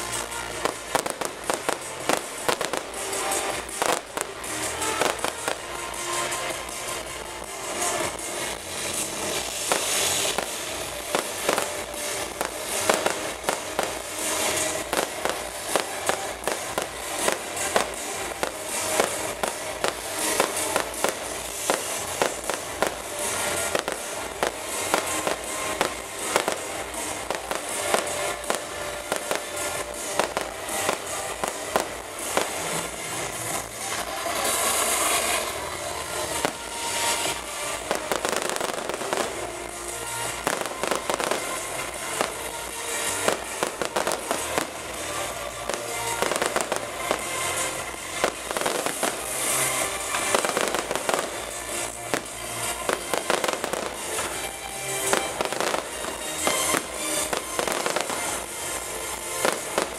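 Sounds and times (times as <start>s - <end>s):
fireworks cracking and banging: 0.0s - 59.9s
steady hiss: 0.0s - 59.9s.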